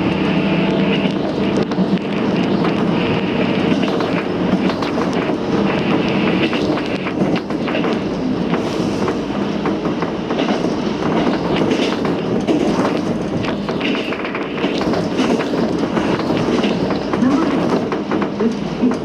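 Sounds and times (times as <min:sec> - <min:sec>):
train wheels rumbling on rails: 0:00.0 - 0:19.0
wheels clacking over rail joints: 0:00.0 - 0:19.0.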